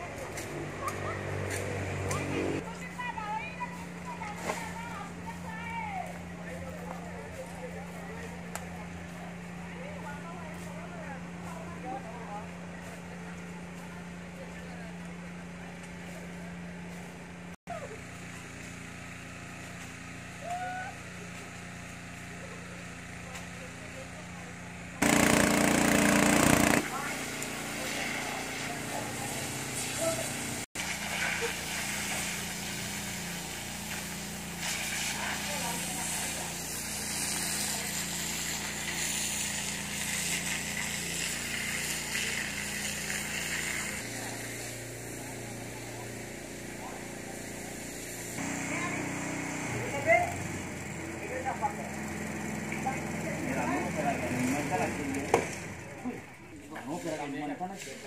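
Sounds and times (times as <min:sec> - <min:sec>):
engine humming: 0:00.0 - 0:56.4.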